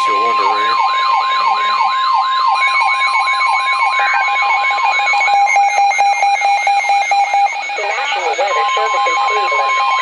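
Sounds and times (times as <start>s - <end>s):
pulsing beep: 0.0s - 10.0s
siren sweeping upward: 0.0s - 10.0s
steady warning alarm tone: 0.0s - 10.0s.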